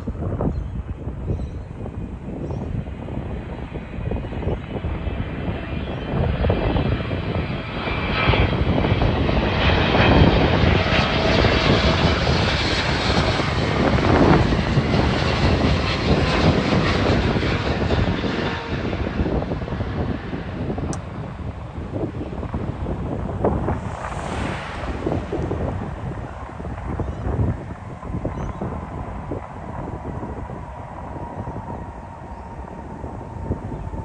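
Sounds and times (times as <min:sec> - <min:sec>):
jet airliner engines roaring: 0:00.9 - 0:34.0.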